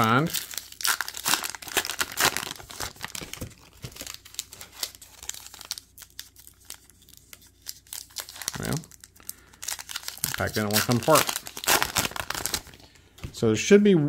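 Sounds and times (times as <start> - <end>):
card pack wrapper crinkling and tearing: 0.0 - 12.9.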